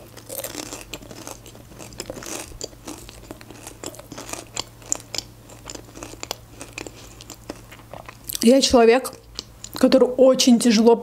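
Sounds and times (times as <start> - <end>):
person chewing crunchy food: 0.0 - 9.8.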